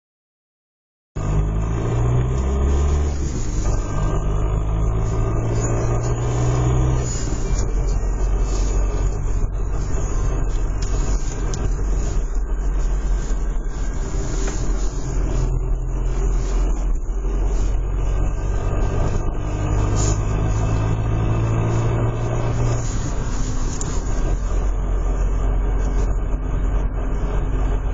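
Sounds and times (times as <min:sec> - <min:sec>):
diesel car engine running: 0:01.2 - 0:27.9.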